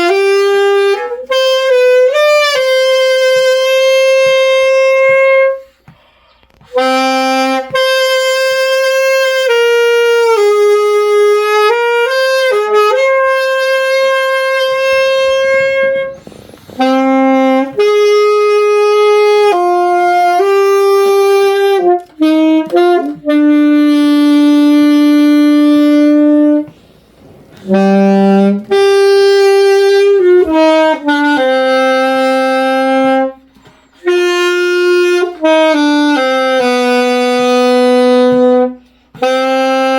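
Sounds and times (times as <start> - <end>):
saxophone slow melody: 0.0 - 39.9.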